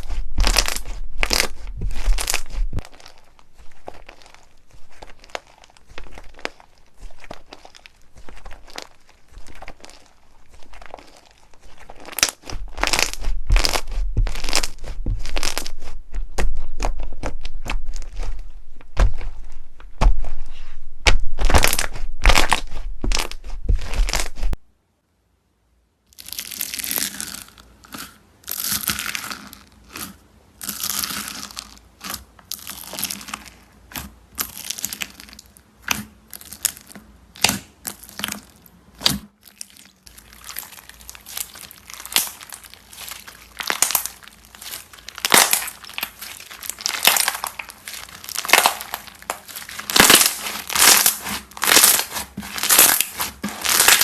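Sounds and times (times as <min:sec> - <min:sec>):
slime crackling and popping: 0:00.0 - 0:20.4, 0:21.0 - 0:24.6, 0:26.1 - 0:54.0
slime swishing: 0:00.0 - 0:24.6, 0:31.1 - 0:54.0.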